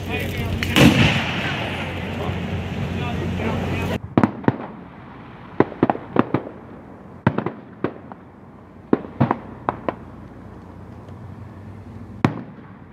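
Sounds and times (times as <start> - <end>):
firework rockets bursting: 0.0 - 12.9
steady low rumble: 0.0 - 12.9.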